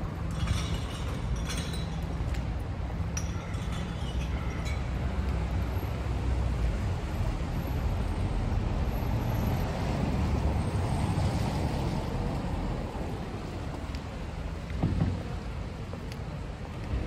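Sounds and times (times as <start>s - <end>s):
traffic on wet roads: 0.0s - 17.0s.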